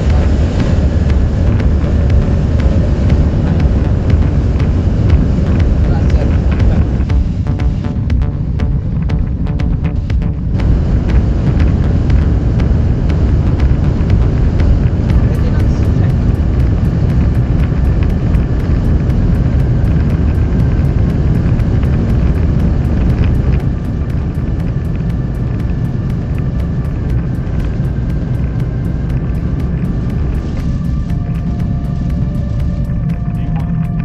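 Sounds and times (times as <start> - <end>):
jet engines rumbling: 0.0 - 34.0.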